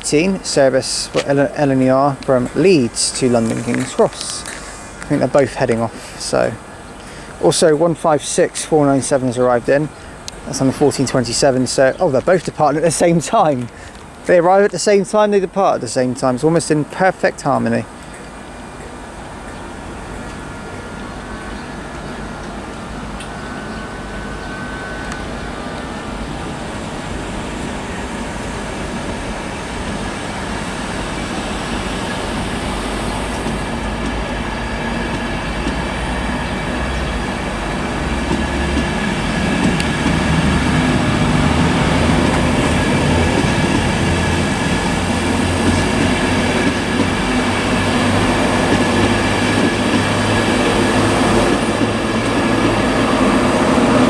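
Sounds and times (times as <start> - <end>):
electric train rumbling past: 0.0 - 54.0.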